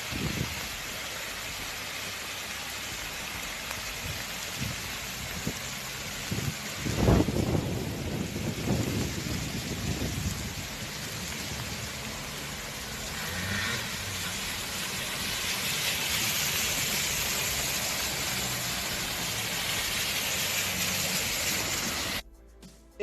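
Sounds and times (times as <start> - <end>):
heavy rain rushing: 0.0 - 22.2.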